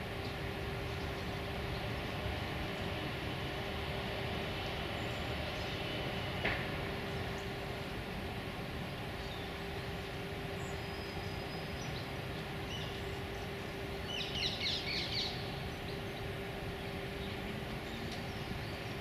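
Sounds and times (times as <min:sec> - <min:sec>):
distant city traffic rumble: 0:00.0 - 0:19.0
faint constant hum: 0:00.0 - 0:19.0.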